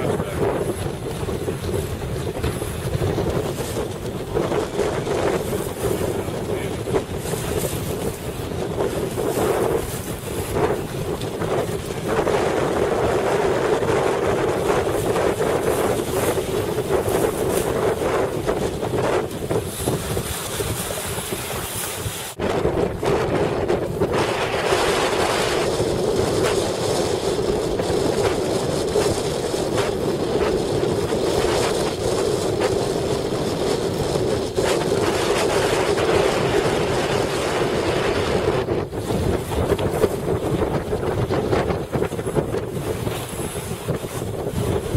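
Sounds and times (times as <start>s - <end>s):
rushing water: 0.0s - 44.9s
wind buffeting microphone: 0.0s - 44.9s.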